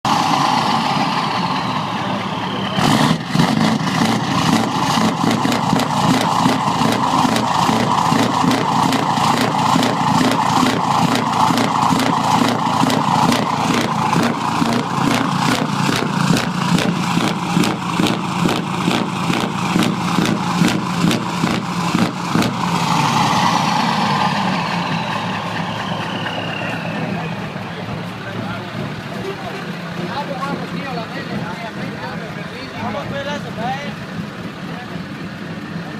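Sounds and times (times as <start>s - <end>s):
diesel engine pulsing: 0.0s - 35.9s
falling whine: 0.1s - 28.9s.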